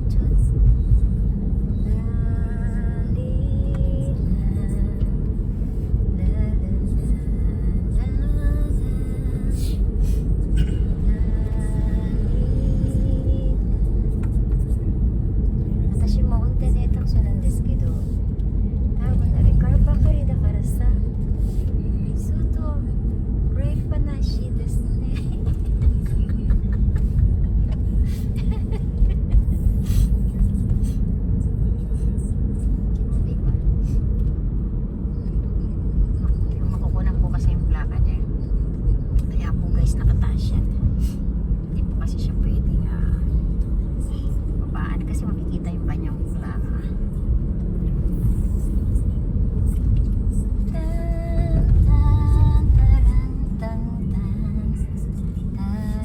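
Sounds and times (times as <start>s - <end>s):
car road rumble: 0.0s - 56.0s.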